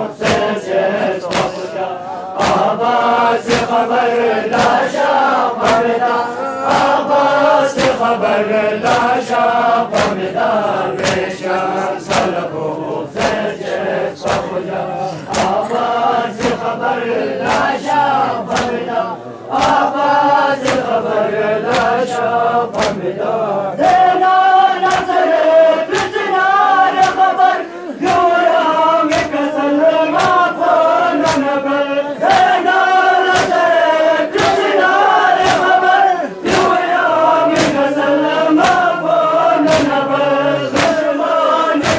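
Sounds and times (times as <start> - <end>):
men chanting in unison: 0.0 - 41.9.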